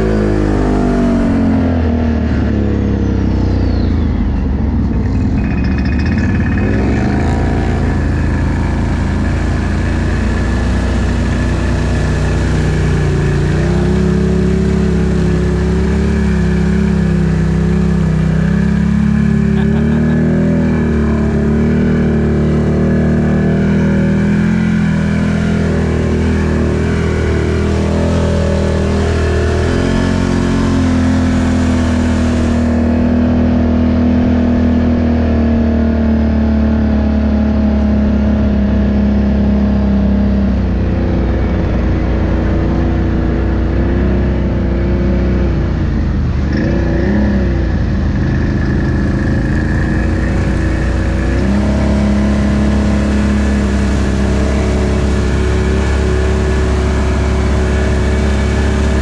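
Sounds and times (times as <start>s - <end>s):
atv engine running: 0.0s - 59.0s
low rumble: 0.0s - 59.0s.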